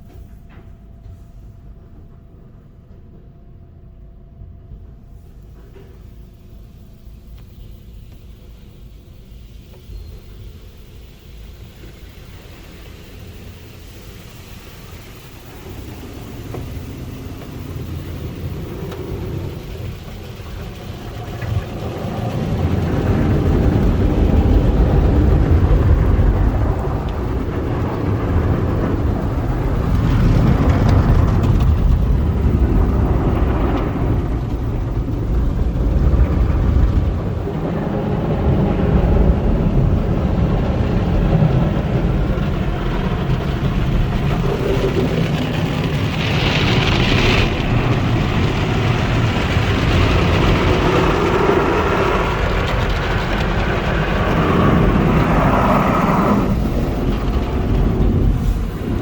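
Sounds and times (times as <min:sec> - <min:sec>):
car wash machinery: 0:00.0 - 0:59.0.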